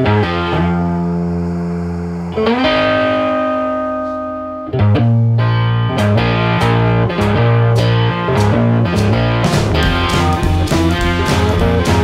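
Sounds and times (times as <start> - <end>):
guitar chords ringing: 0.0 - 12.0.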